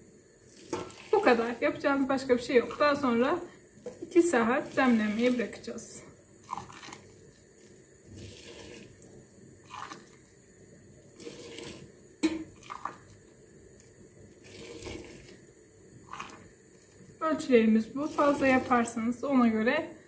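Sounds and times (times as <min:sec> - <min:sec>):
hot water pouring and splashing: 0:00.0 - 0:19.3.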